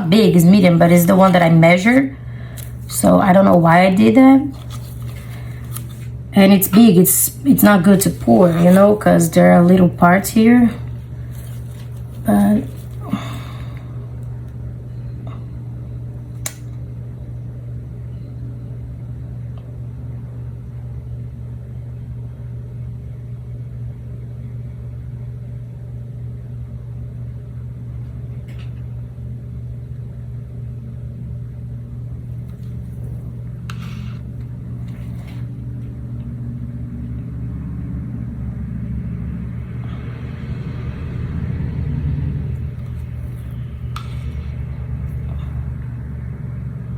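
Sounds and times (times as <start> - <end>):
low mechanical hum: 0.0 - 46.9.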